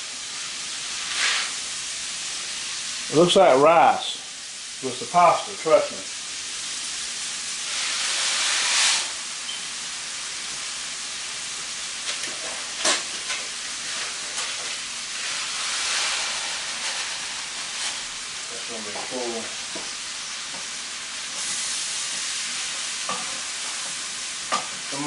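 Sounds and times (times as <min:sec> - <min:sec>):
food sizzling in grease: 0:00.0 - 0:25.0.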